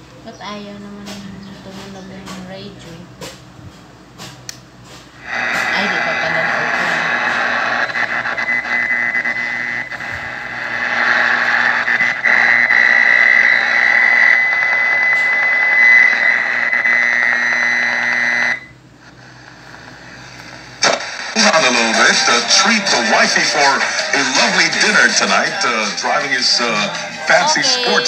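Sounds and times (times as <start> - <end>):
radio broadcast: 5.2 - 28.0
radio static hiss with whistle: 5.2 - 28.0.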